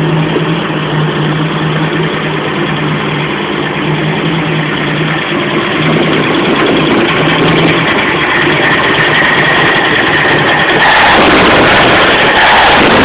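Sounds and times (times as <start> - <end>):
engine idling with uneven rumble: 0.0 - 13.0.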